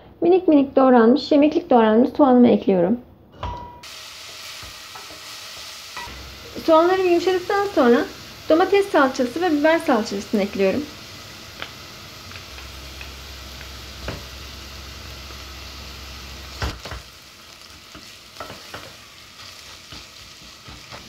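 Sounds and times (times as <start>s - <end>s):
onions sizzling in a pot: 3.8s - 21.0s.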